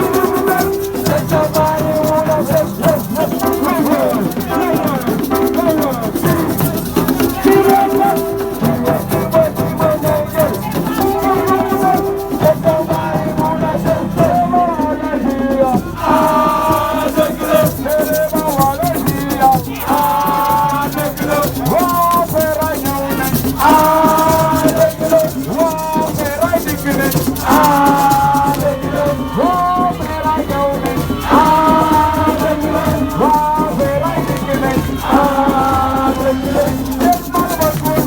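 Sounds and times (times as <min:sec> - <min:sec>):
shaken rattles: 0:00.0 - 0:14.6, 0:15.5 - 0:38.0
voices singing: 0:00.0 - 0:38.0.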